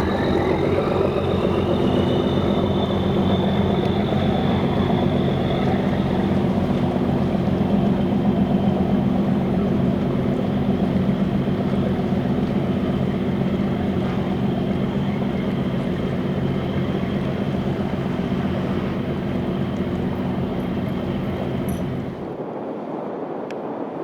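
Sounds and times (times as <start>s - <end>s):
boat engine humming: 0.0s - 22.4s.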